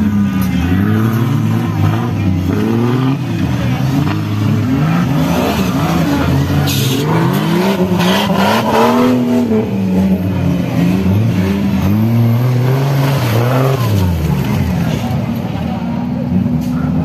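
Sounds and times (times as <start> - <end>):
buggy engines revving: 0.0 - 17.0.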